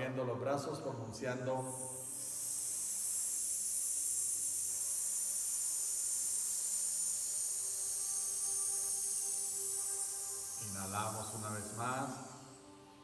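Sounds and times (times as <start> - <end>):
person exhaling a hiss: 1.6 - 13.0.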